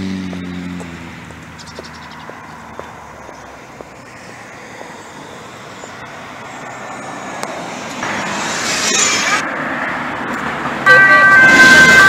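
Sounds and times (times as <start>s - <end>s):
bus passing: 0.0s - 12.0s.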